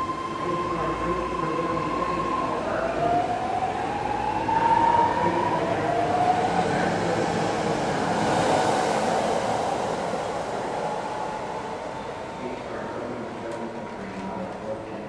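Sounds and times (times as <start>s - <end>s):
wheel and rail noise: 0.0s - 15.0s.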